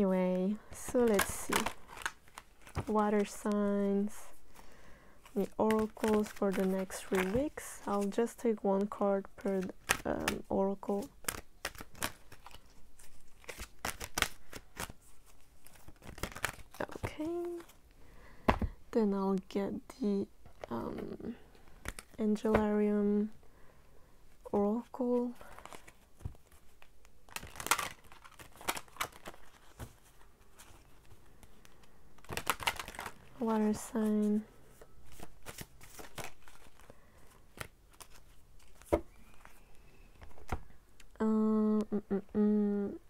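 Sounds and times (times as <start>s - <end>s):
cards being shuffled: 0.4s - 17.8s, 20.5s - 22.8s, 24.7s - 40.7s.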